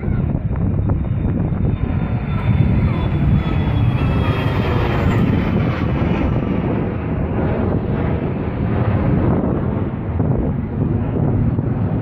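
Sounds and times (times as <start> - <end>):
jet engines rumbling overhead: 0.0 - 12.0.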